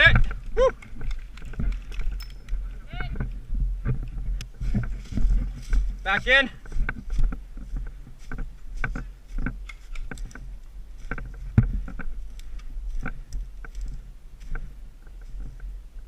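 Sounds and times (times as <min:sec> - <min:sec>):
low microphone rumble: 0:00.0 - 0:16.0
footsteps and gear knocking: 0:00.1 - 0:15.8.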